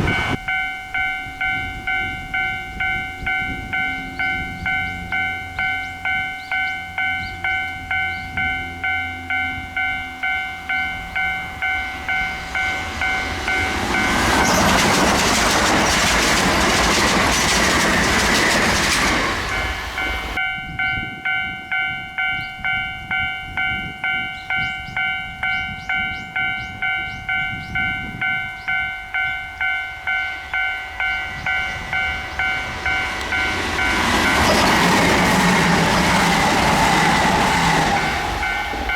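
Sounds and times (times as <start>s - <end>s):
level crossing bell ringing: 0.0s - 14.6s, 19.5s - 38.9s
train passing: 0.0s - 38.9s.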